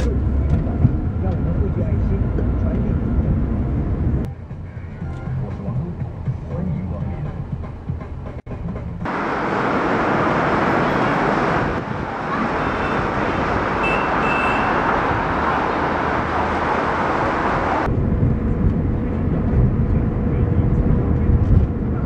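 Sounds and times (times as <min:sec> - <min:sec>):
cars passing on city street: 0:00.0 - 0:22.0.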